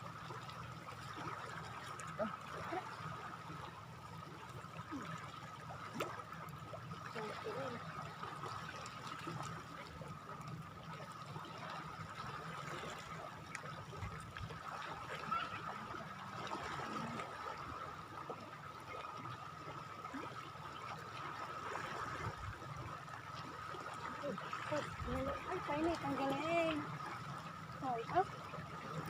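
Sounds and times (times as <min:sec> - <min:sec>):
water lapping on shore: 0:00.0 - 0:29.0.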